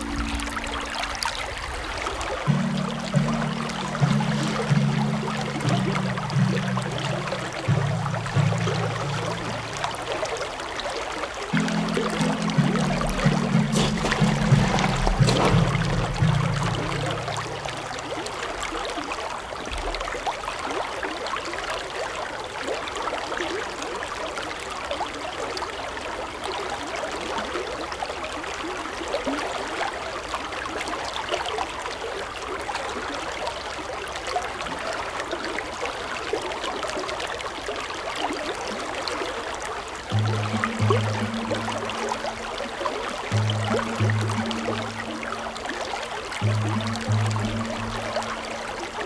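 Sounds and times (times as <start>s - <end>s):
brook flowing over rocks: 0.0s - 49.0s.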